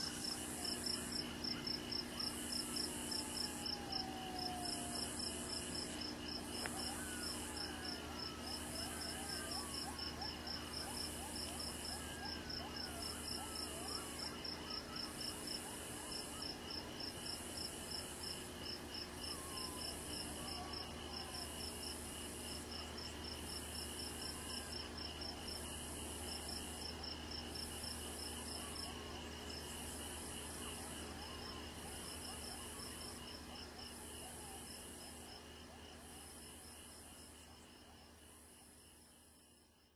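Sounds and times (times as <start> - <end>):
crickets trilling: 0.0 - 39.8.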